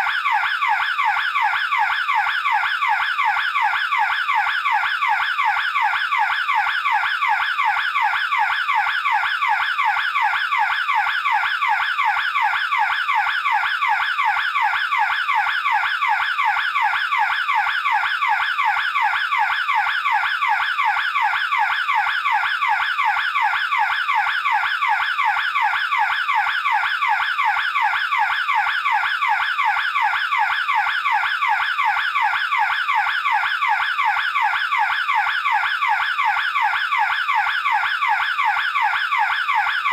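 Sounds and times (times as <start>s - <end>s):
burglar alarm siren: 0.0s - 39.9s.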